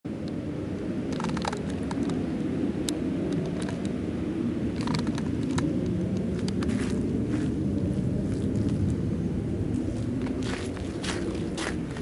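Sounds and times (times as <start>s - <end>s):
wind rumble on microphone: 0.1s - 12.0s.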